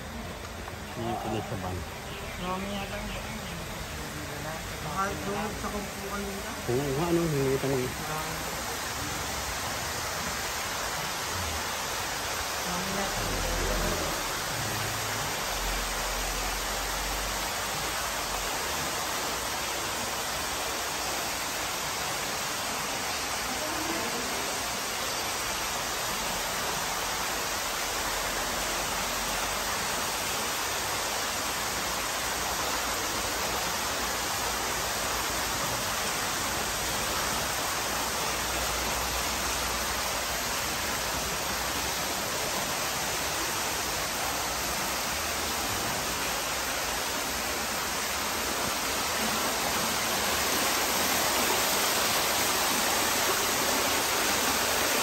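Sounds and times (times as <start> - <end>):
fountain water splashing on rocks: 0.0 - 55.0.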